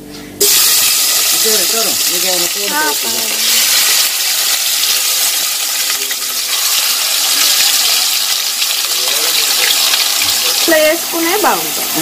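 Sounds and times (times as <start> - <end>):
chicken sizzling in hot oil: 0.4 - 12.0.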